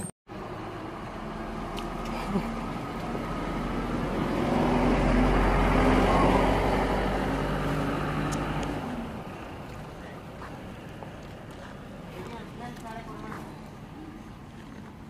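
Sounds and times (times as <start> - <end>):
vehicle passing by: 0.3 - 15.0.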